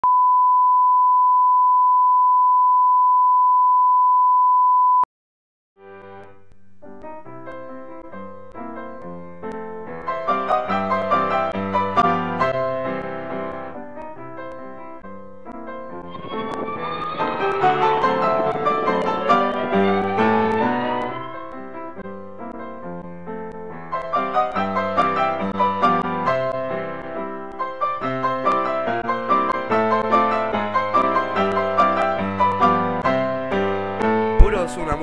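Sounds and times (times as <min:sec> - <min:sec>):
piano music: 0:06.8 - 0:35.0.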